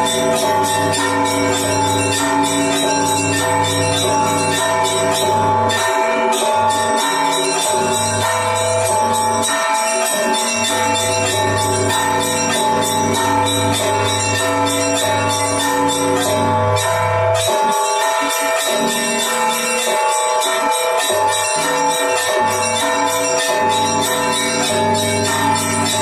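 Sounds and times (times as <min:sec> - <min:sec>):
deep low bell: 0:00.0 - 0:26.0
middle bells ringing: 0:00.0 - 0:26.0
small bells struck fast: 0:00.0 - 0:26.0.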